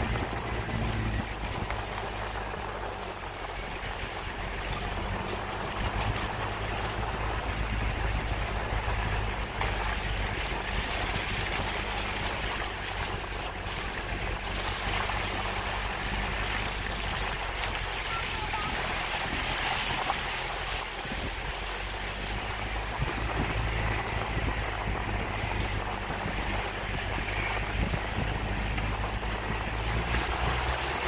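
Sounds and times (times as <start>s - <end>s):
tyre and wind noise: 0.0s - 31.0s
vehicle engine hum: 0.0s - 31.0s.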